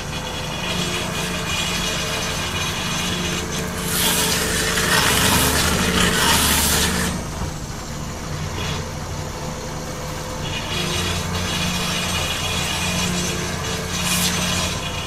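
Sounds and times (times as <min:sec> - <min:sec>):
grinder rasping wood: 0:00.0 - 0:15.0.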